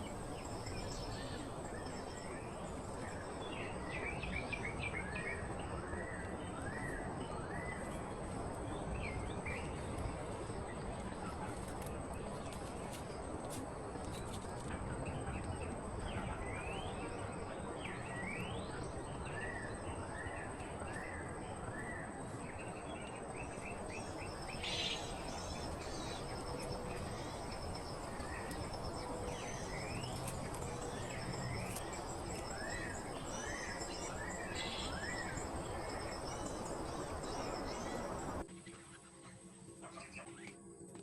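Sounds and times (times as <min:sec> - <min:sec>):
constant hiss: 0:00.0 - 0:39.8.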